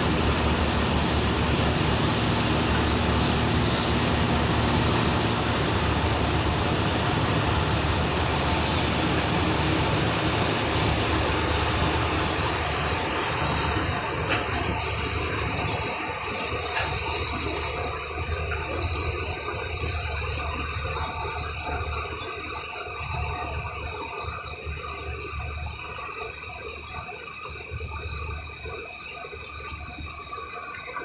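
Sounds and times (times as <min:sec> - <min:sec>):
boat engine humming: 0:00.0 - 0:31.0.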